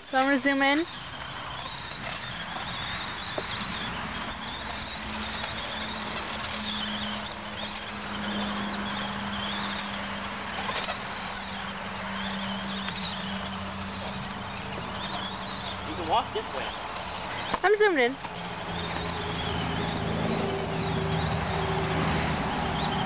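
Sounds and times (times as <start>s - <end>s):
steady hiss: 0.0s - 22.8s
electric toy truck motor whining: 0.0s - 23.0s.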